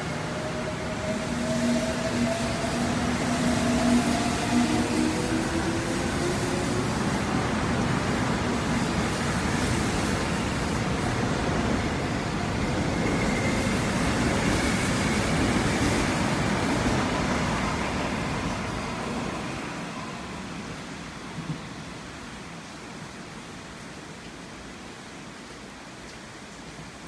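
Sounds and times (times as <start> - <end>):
train wheels rushing on rail: 0.0 - 22.1.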